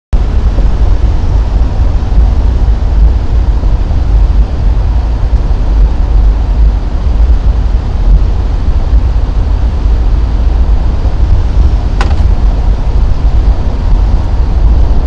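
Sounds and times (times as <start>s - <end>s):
road and wind noise rumble: 0.1s - 15.0s.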